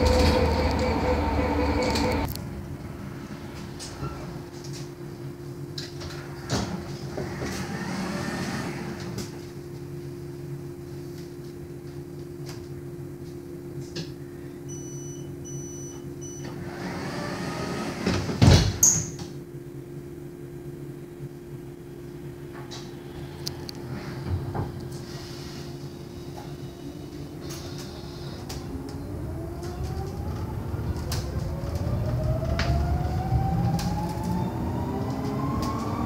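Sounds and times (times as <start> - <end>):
bus electrical hum: 0.0 - 36.0.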